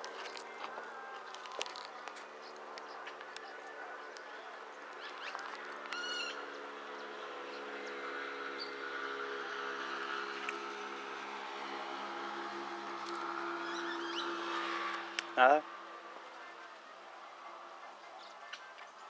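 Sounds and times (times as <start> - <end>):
distant engine humming: 0.0 - 19.0.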